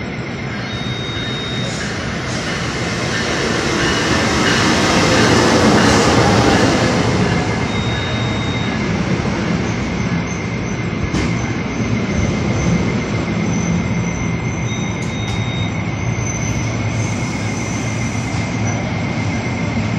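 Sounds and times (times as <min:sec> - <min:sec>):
train cars rumbling: 0:00.0 - 0:19.9
train wheel squeal: 0:00.0 - 0:19.9.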